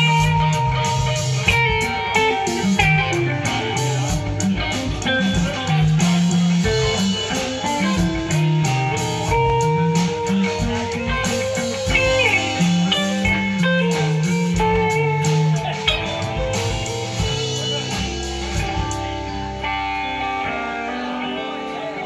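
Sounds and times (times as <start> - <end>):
drum kit: 0.0 - 22.0
electric bass guitar: 0.0 - 22.0
electric guitars: 0.0 - 22.0.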